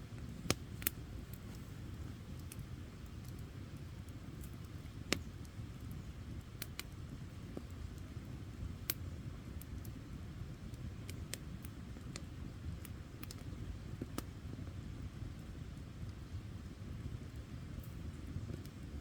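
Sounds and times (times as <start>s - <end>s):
campfire flames rumbling: 0.0s - 19.0s
fire crackles and pops: 0.0s - 19.0s.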